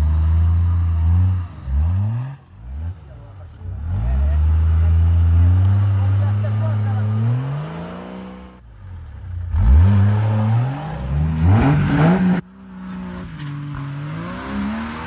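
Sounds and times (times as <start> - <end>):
off-road engine revving hard: 0.0 - 8.6, 9.3 - 15.0
car engine at moderate revs: 0.0 - 15.0.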